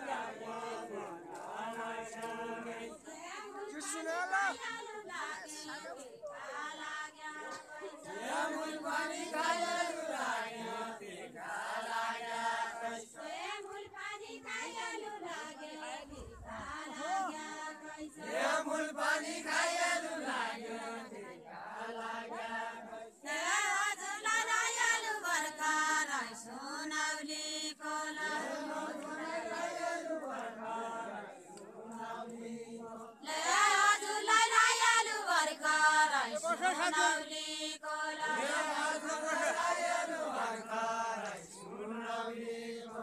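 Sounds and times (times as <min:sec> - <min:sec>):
group singing without instruments: 0:00.0 - 0:43.0.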